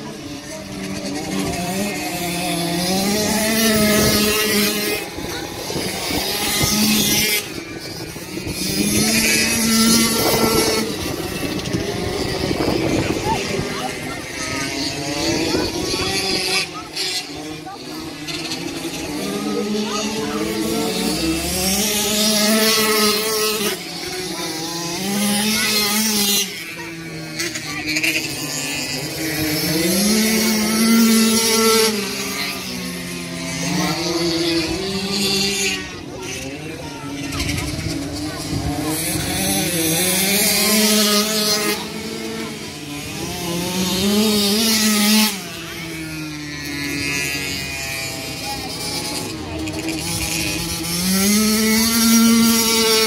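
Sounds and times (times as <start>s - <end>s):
racing car engines droning: 0.0s - 53.0s.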